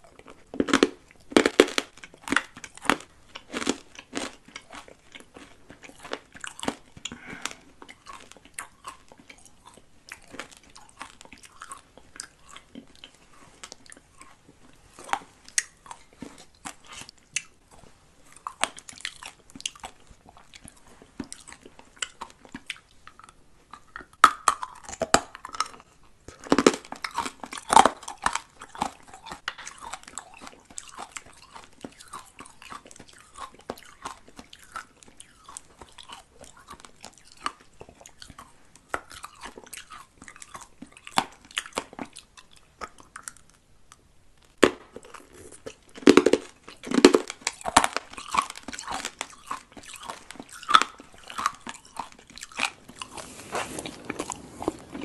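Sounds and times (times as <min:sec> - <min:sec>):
chewing and crunching candies: 0:00.0 - 0:55.0.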